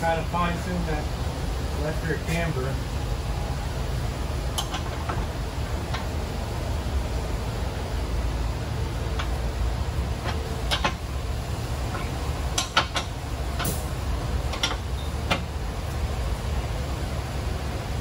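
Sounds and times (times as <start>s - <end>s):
low shop hum: 0.0s - 18.0s.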